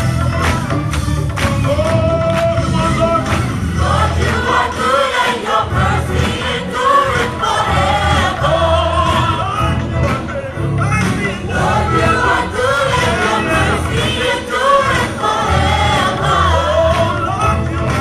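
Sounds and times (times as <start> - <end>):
band with heavy bass and beat: 0.0 - 18.0
gospel choir singing: 1.8 - 18.0.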